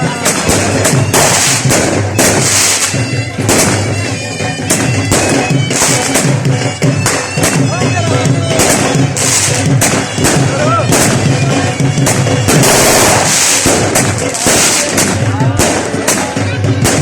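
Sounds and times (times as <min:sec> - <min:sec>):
bagpipes playing: 0:00.0 - 0:17.0
regular drumbeat: 0:00.0 - 0:17.0
sharp bangs: 0:00.0 - 0:17.0.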